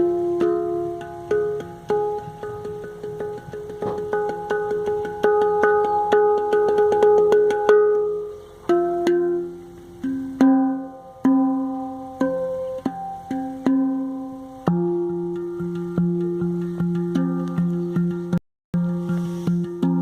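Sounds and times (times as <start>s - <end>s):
handpan notes: 0.0s - 20.0s.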